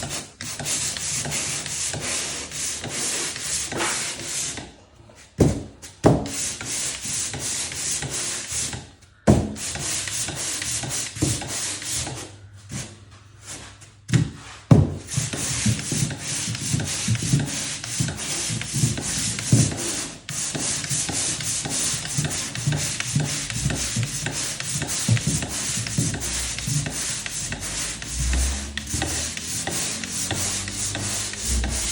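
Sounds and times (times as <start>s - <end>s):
drywall sanding strokes: 0.0s - 31.9s.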